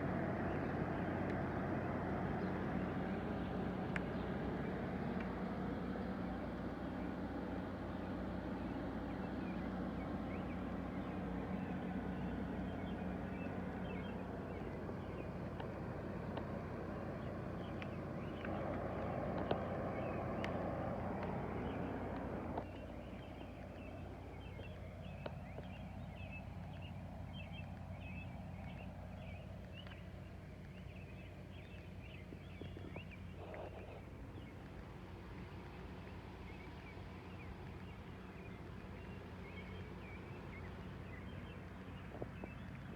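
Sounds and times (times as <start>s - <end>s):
rumble: 0.0s - 42.9s
steady low hum: 0.0s - 42.9s.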